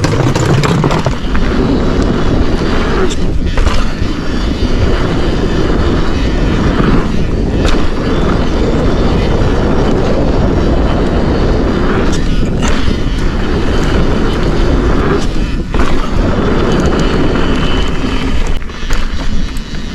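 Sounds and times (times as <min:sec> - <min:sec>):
bike clicks and rattles: 0:00.0 - 0:19.9
bike tyres rolling on dirt: 0:00.0 - 0:19.9
wind rushing on microphone: 0:00.0 - 0:19.9.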